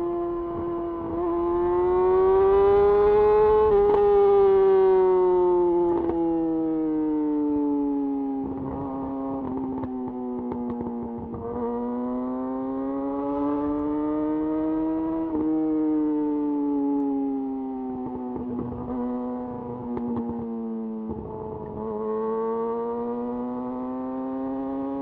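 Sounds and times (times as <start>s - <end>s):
motorcycle engine revving: 0.0s - 6.8s, 8.4s - 25.0s.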